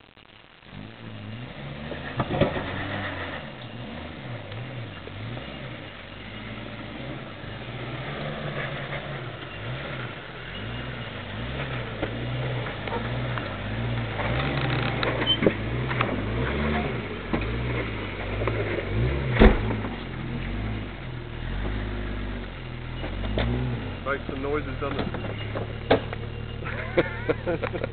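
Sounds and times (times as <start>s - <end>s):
suv engine revving at low revs: 0.7s - 27.9s.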